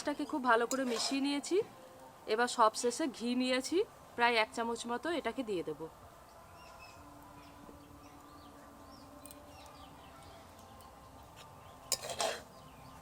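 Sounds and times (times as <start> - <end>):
small birds chirping faintly: 1.4 - 13.0.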